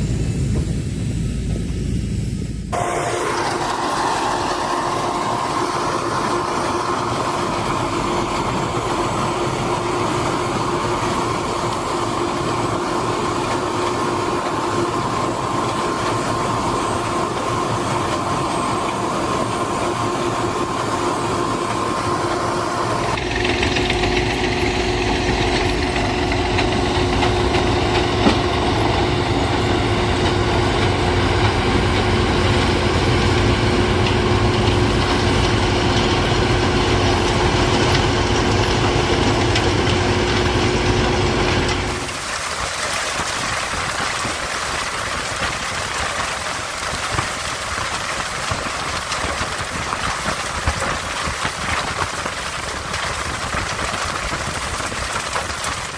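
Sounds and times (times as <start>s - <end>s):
tractor engine rumble: 0.0s - 55.9s
wood chipper whining: 0.0s - 55.9s.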